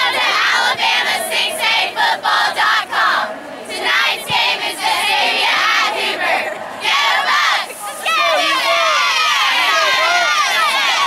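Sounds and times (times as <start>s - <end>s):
cheerleaders shouting a cheer: 0.0s - 11.0s.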